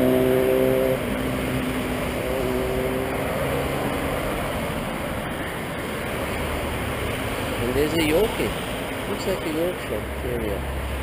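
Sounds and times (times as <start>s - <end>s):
rush of traffic noise: 0.0s - 11.0s
vehicle engine hum: 0.0s - 11.0s.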